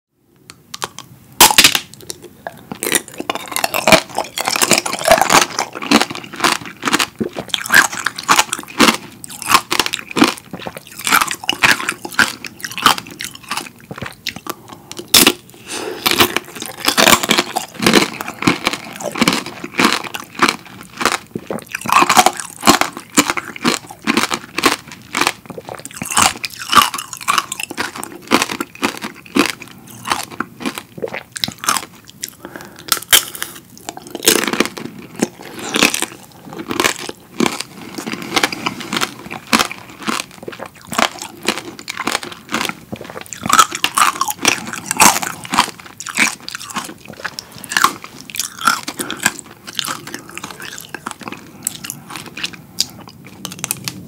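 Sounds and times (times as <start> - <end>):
crunching candied fruit: 0.7 - 54.0
chewing: 0.8 - 54.0.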